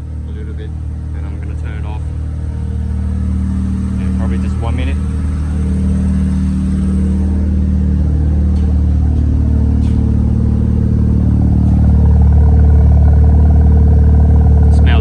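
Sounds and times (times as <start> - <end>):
rotary engine running: 0.0 - 15.0.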